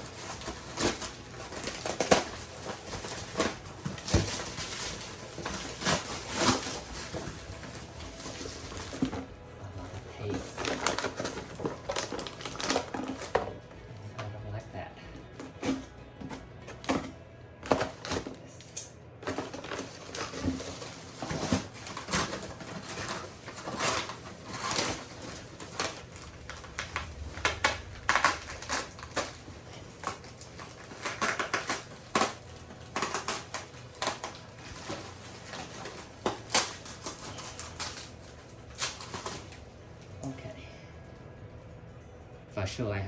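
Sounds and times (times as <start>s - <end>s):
packing material crinkling: 0.0s - 13.6s, 16.8s - 39.8s.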